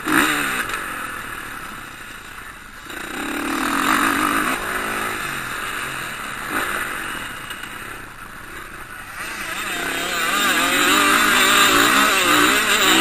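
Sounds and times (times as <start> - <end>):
motocross motorcycles revving by: 0.0 - 13.0.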